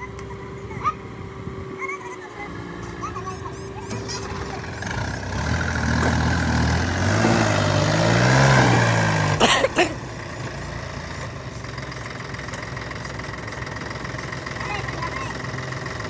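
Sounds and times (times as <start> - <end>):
diesel engine revving and idling: 0.0 - 16.0.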